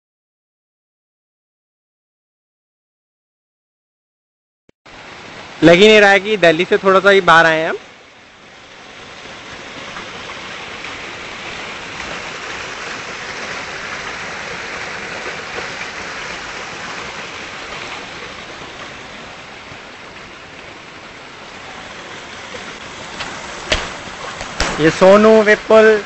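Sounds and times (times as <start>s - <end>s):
water rushing over rocks: 4.9s - 26.0s.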